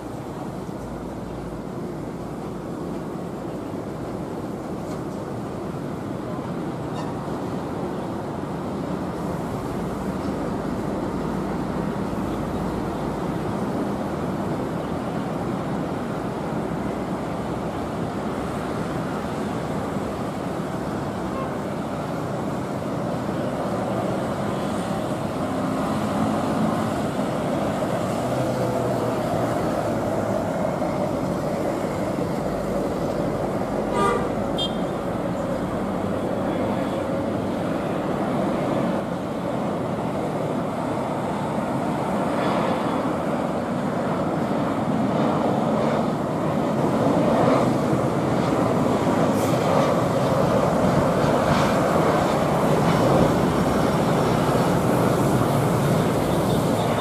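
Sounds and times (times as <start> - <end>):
distant road traffic roar: 0.0 - 57.0
jet airliner engine drone: 0.0 - 57.0.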